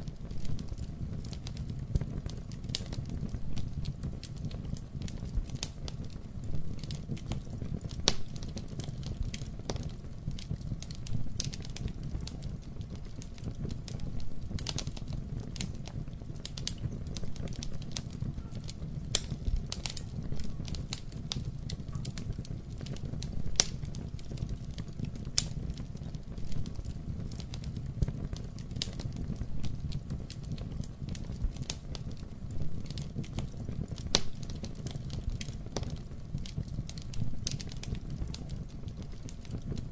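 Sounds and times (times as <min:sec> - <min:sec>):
burning wood crackling and popping: 0:00.0 - 0:39.9
campfire flames rumbling: 0:00.0 - 0:39.9.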